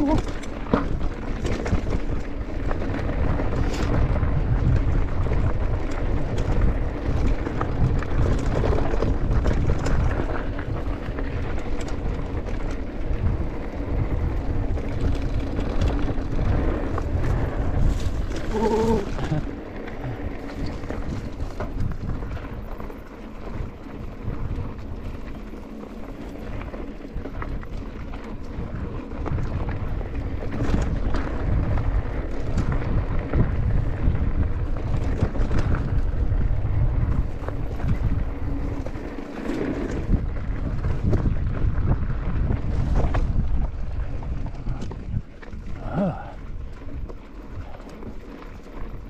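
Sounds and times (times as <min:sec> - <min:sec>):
bike clicks and rattles: 0:00.0 - 0:49.0
tyres rolling over dirt trail: 0:00.0 - 0:49.0
wind noise on microphone: 0:00.0 - 0:49.0.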